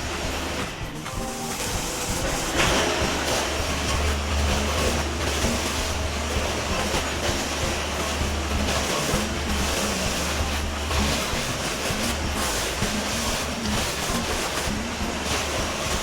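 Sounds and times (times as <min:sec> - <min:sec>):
heavy machinery rumbling: 0:00.0 - 0:16.0.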